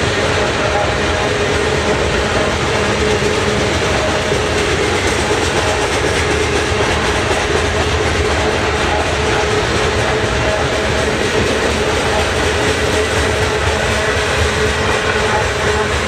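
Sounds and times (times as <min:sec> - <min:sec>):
steel wheels rolling on rails: 0:00.0 - 0:16.0.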